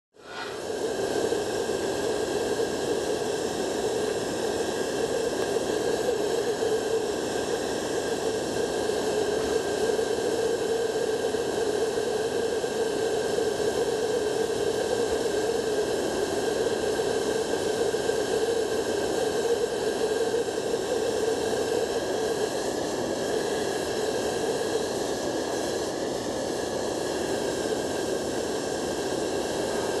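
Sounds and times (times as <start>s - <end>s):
faint high whine: 0.2s - 30.0s
heating tool rushing hiss: 0.2s - 30.0s.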